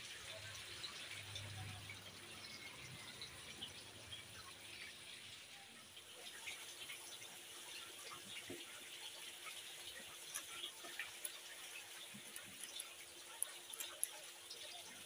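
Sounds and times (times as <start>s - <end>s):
water splashing and trickling in tank: 0.0s - 15.0s.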